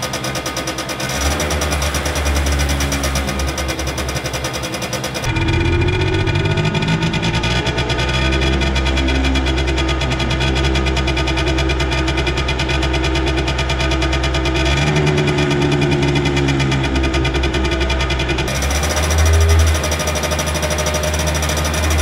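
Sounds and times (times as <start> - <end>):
scooter engine exhaust pulsing: 0.0 - 22.0.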